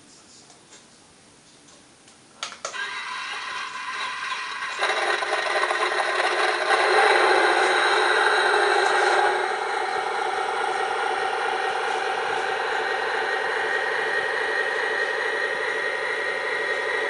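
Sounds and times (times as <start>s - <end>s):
model bulldozer whine and rattle: 2.7s - 17.0s.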